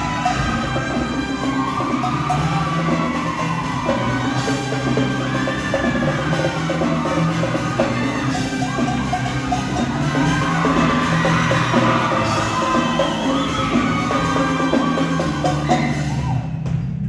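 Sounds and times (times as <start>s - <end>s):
choir singing: 0.0s - 16.5s
live band with drums and bass: 0.0s - 16.8s.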